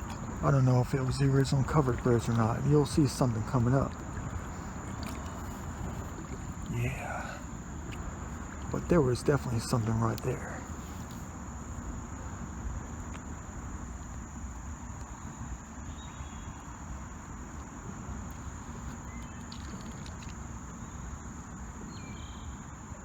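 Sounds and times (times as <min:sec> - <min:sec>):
crickets droning: 0:00.0 - 0:23.0
low steady rumble: 0:00.0 - 0:23.0.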